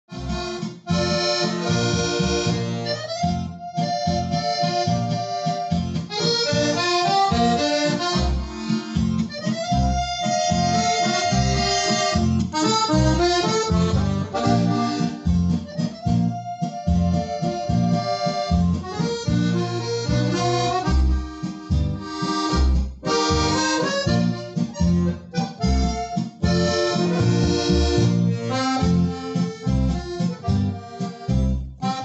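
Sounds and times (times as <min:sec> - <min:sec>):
accordion music: 0:00.0 - 0:32.0.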